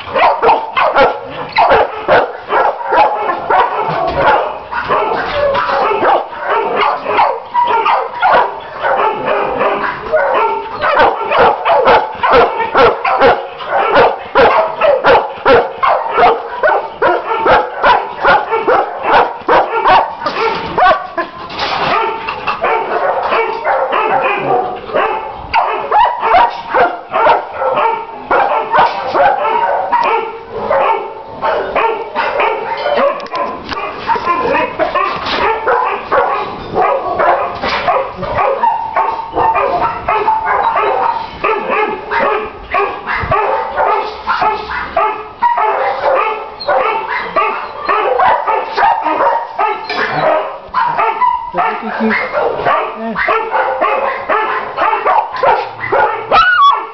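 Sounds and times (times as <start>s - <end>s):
many dogs barking: 0.0s - 56.9s.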